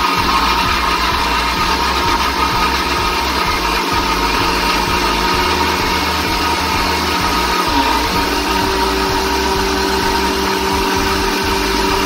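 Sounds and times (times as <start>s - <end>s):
mixer grinder running: 0.0s - 12.0s.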